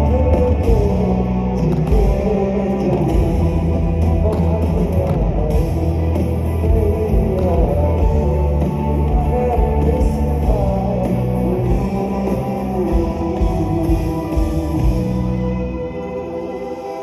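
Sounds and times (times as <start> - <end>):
live rock band playing: 0.0 - 17.0
man singing: 0.0 - 17.0.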